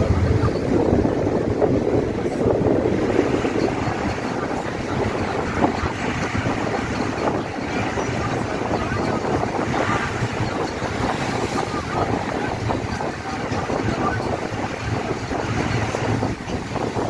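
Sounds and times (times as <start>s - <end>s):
vehicle road noise: 0.0s - 17.0s
wind rushing over microphone: 0.0s - 17.0s.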